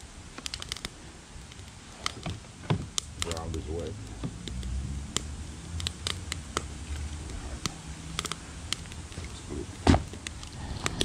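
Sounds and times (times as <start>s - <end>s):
wood fire crackling: 0.0s - 11.0s
sharp pops of fire: 0.3s - 11.0s.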